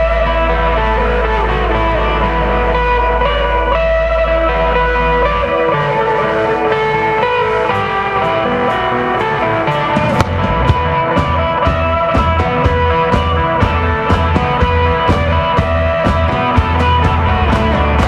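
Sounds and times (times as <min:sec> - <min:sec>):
drums and bass beat: 0:00.0 - 0:18.0
electric guitar sustained notes: 0:00.0 - 0:18.0.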